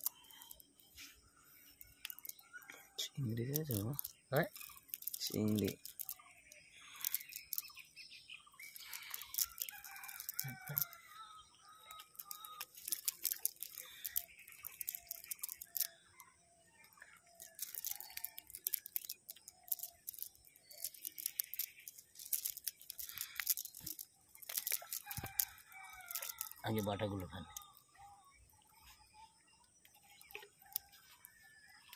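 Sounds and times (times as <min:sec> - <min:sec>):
net rustling and crackling: 0:00.0 - 0:07.9, 0:08.6 - 0:11.2, 0:11.9 - 0:16.0, 0:17.1 - 0:28.1, 0:29.8 - 0:31.9.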